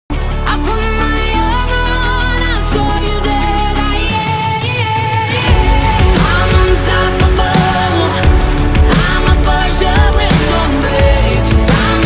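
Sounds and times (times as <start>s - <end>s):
gliding melody over bass: 0.1s - 12.0s.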